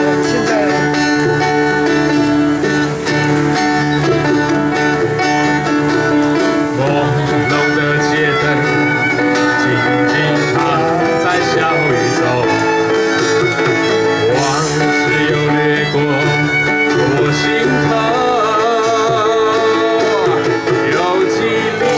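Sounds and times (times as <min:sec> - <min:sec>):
plucked strings: 0:00.0 - 0:21.9
sustained chords: 0:00.0 - 0:21.9.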